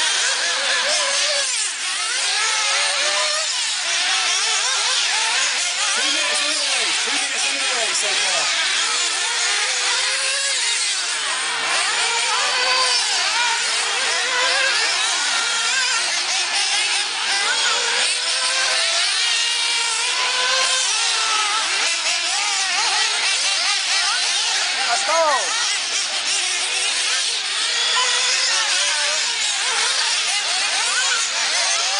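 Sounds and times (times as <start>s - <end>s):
rc buggy engines whining: 0.0s - 31.9s.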